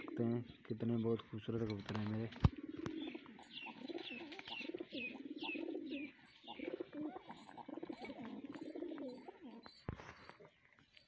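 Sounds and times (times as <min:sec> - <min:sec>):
pigeons cooing: 0:00.0 - 0:00.6, 0:02.3 - 0:10.6.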